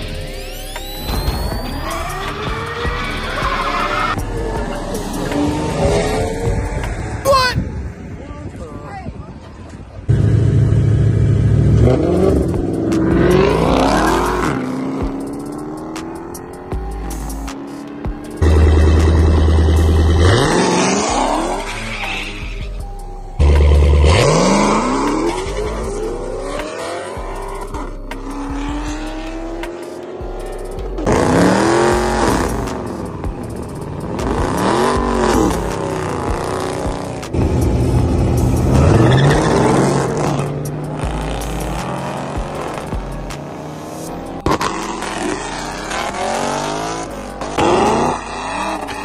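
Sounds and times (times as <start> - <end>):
music with heavy bass: 0.0 - 7.8, 10.2 - 49.0
cars accelerating hard: 1.0 - 7.2, 10.1 - 22.7, 23.4 - 49.0
cars passing by: 1.4 - 49.0.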